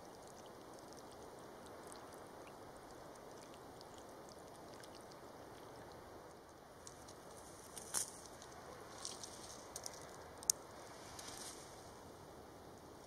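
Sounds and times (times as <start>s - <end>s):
water trickling into soil: 0.0s - 12.2s.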